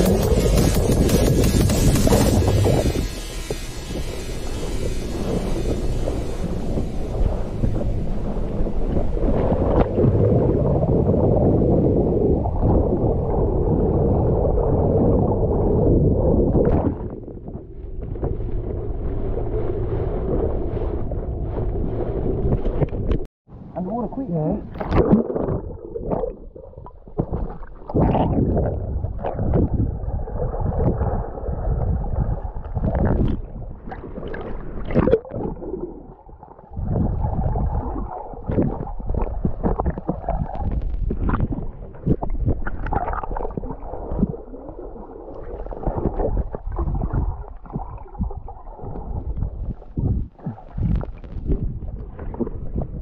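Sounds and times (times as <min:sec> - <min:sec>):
muffled water sloshing and gurgling: 0:00.0 - 0:53.0.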